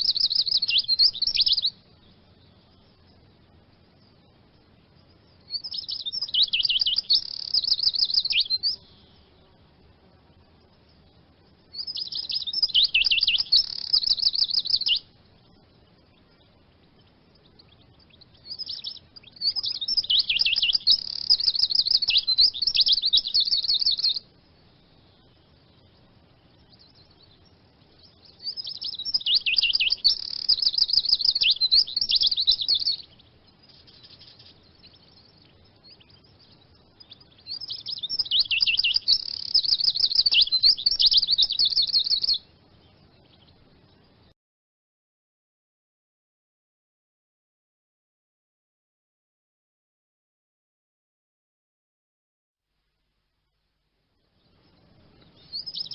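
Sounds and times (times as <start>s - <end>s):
bird twittering song: 0.0s - 44.3s, 54.2s - 55.9s.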